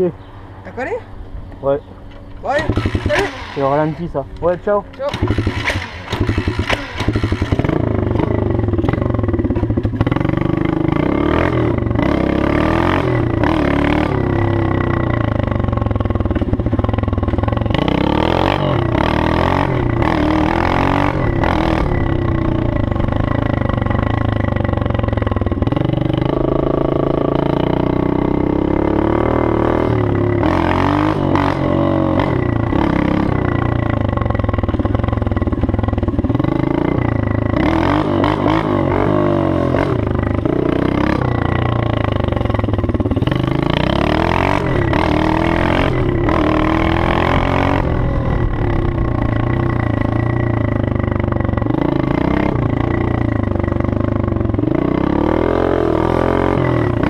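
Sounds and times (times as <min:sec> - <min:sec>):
motorbike engine revving: 0:02.3 - 0:57.0.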